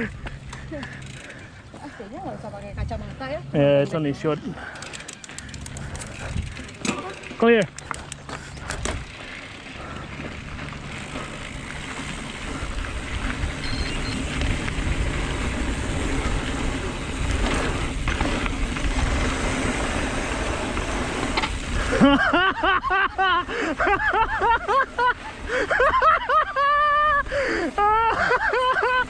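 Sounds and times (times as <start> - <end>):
bike tyre rumble on dirt: 4.2 - 29.0
rushing wind: 4.4 - 29.0.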